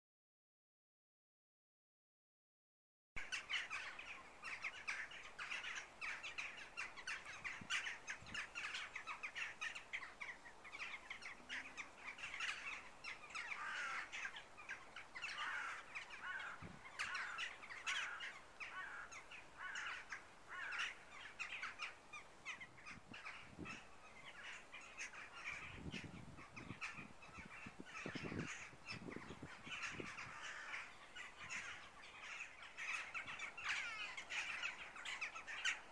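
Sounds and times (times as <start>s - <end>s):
crows cawing: 3.3s - 25.8s, 29.6s - 35.9s.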